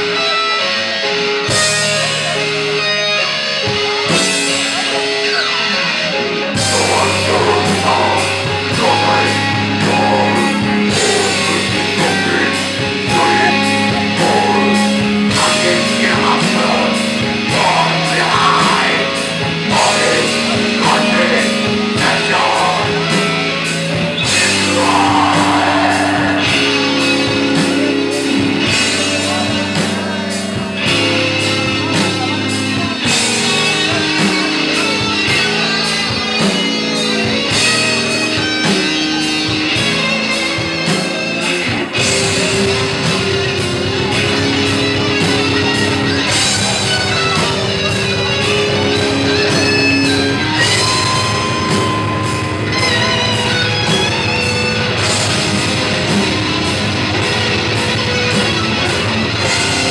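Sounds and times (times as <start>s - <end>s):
distorted electric guitars and bass: 0.0s - 59.9s.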